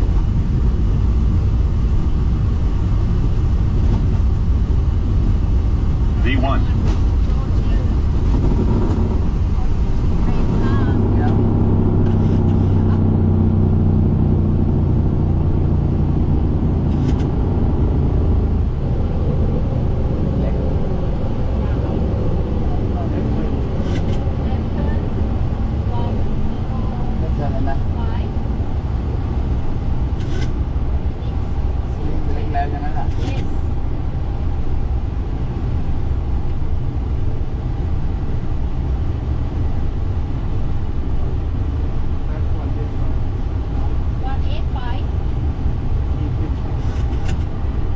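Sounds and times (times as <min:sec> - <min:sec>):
aircraft engines and runway rumble: 0:00.0 - 0:47.9.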